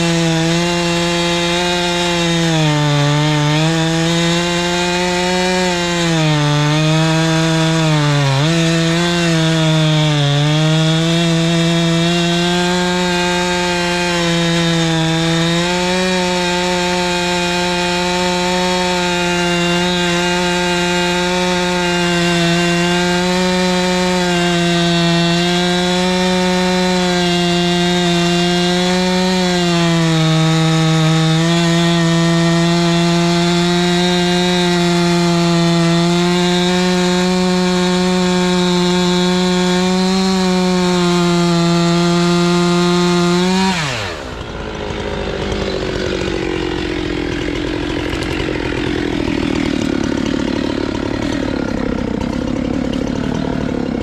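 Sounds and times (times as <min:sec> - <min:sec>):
chainsaw cutting through trunk: 0:00.0 - 0:54.0.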